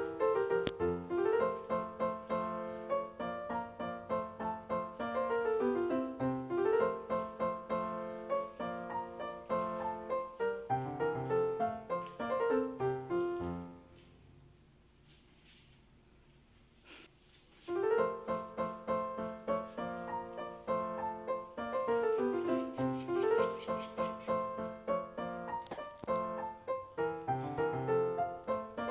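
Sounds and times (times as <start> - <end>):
solo piano music: 0.0 - 14.4, 17.7 - 28.9.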